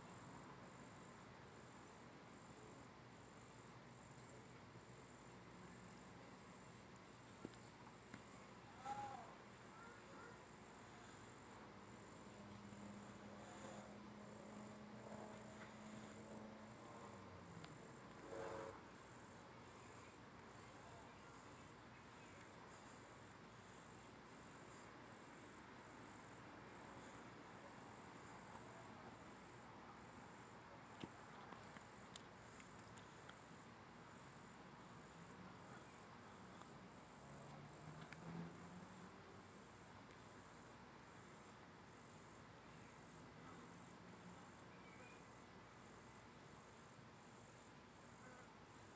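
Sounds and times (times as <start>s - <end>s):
faint crickets chirping: 0.0s - 48.9s.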